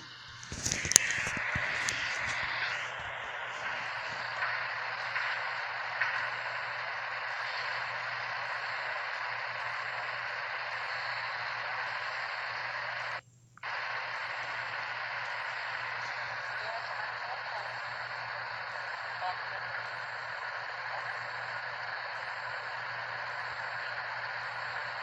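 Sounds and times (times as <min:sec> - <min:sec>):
low hum: 0:00.0 - 0:25.0
static-like hiss: 0:00.0 - 0:25.0.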